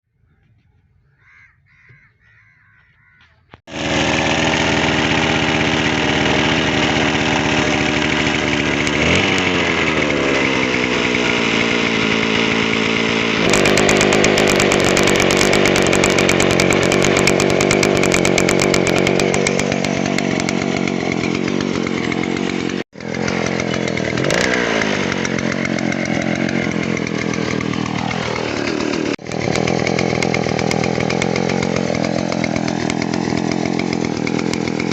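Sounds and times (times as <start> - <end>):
chainsaw running hard: 3.7 - 34.9.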